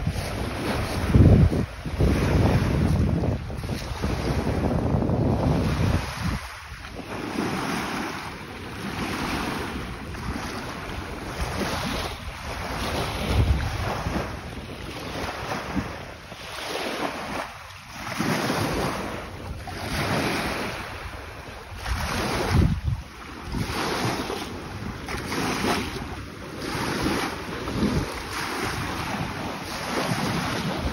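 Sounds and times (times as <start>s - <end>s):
waves lapping on shore: 0.0s - 30.9s
wind on microphone: 0.0s - 30.9s.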